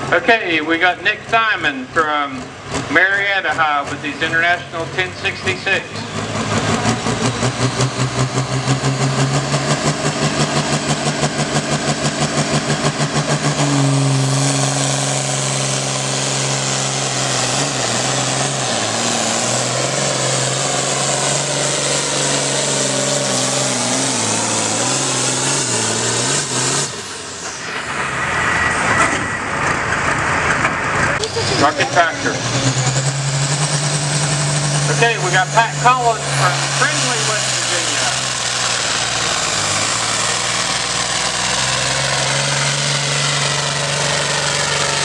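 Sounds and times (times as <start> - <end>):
diesel tractor engine revving: 0.0 - 45.0.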